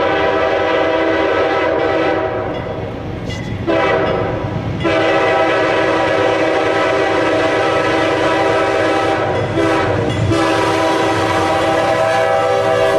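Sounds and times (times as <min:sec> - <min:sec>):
train air horn blasts: 0:00.0 - 0:02.5, 0:03.6 - 0:12.9
low train rumble: 0:00.0 - 0:12.9.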